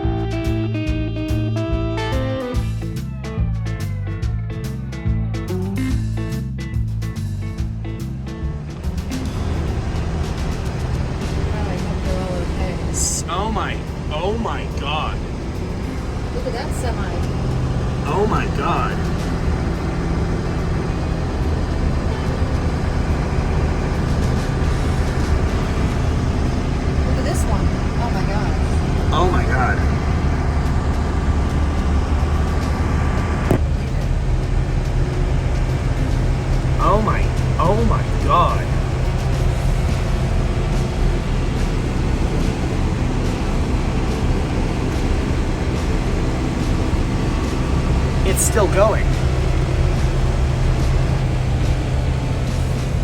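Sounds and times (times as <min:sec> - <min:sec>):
road and cab noise: 0:00.0 - 0:53.0
van engine drone: 0:00.0 - 0:53.0.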